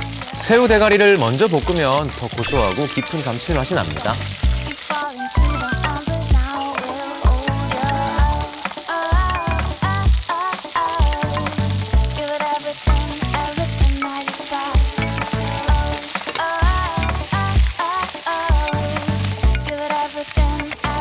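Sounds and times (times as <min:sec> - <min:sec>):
background music with steady beat: 0:00.0 - 0:21.0
food sizzling in a pot: 0:00.0 - 0:21.0.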